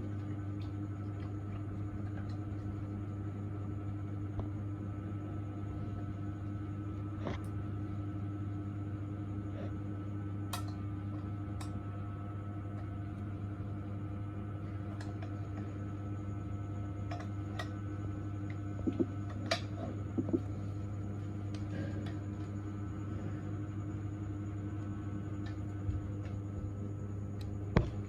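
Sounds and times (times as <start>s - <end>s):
dental equipment humming: 0.0s - 28.0s.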